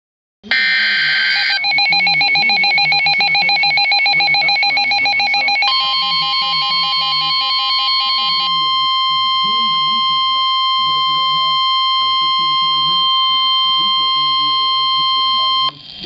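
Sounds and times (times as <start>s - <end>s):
rapid electronic beeping: 0.5s - 15.8s
steady high alert tone: 0.5s - 15.8s.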